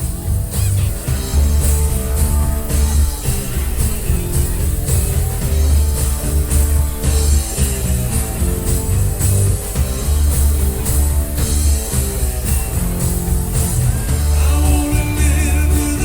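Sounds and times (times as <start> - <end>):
bass guitar: 0.0 - 16.0
drum kit steady beat: 0.0 - 16.0
electric guitar: 0.0 - 16.0.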